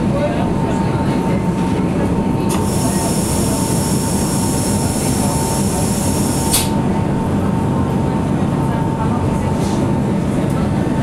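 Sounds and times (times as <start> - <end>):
railway car rumbling: 0.0 - 11.0.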